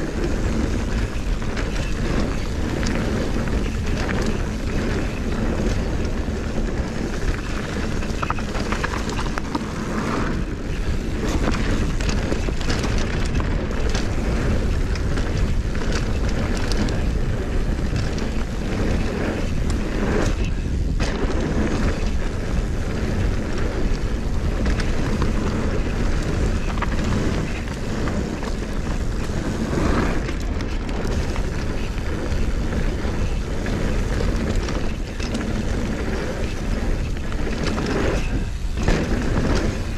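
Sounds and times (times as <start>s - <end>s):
bike clicks and rattles: 0.0s - 39.9s
bike tyres rumbling on gravel: 0.0s - 39.9s
wind on microphone: 0.0s - 39.9s.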